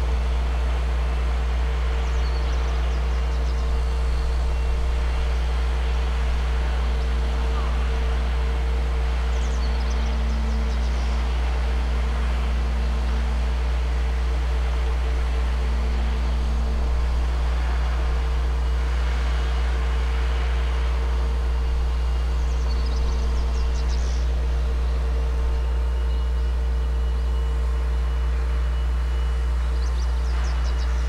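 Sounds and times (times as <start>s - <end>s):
low mechanical drone: 0.0s - 31.0s.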